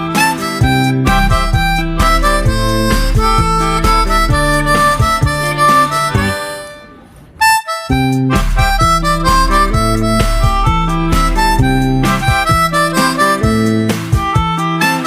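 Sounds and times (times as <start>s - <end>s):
background music with bass line: 0.0s - 6.8s, 7.9s - 15.0s.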